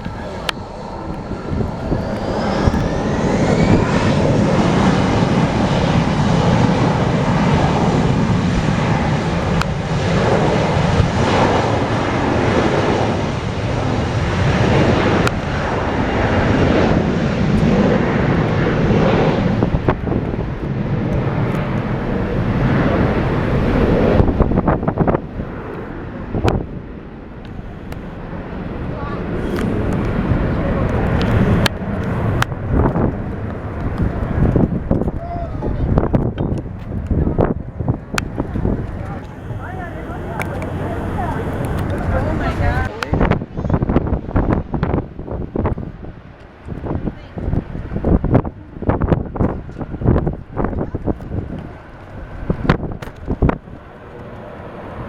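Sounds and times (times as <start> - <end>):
airplane engine roar: 0.0 - 55.0.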